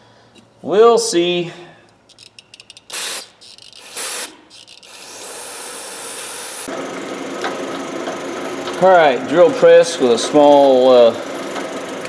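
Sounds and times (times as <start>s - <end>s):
drill press running: 2.1s - 12.0s.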